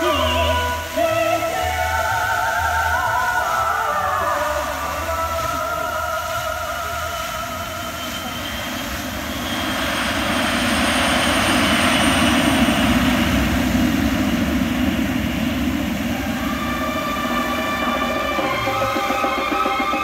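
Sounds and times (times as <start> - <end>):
fountain show music: 0.0 - 20.0
fountain water jets hissing: 0.0 - 20.0.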